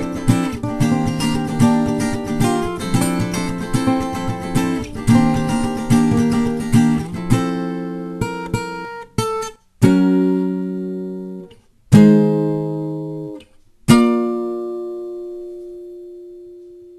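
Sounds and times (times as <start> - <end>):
acoustic guitar chords ringing: 0.0 - 16.9.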